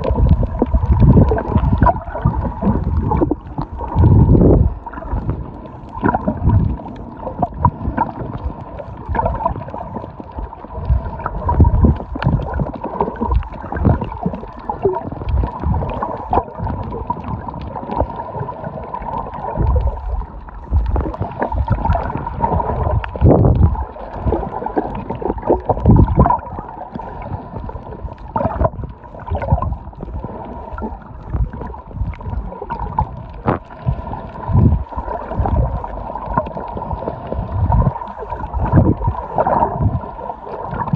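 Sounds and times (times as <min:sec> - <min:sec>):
water gurgling underwater: 0:00.0 - 0:40.9.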